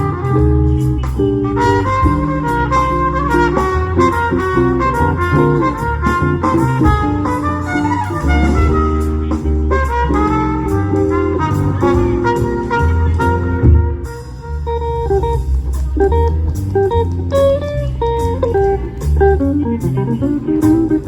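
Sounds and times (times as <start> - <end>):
swing jazz band playing: 0.0 - 21.0.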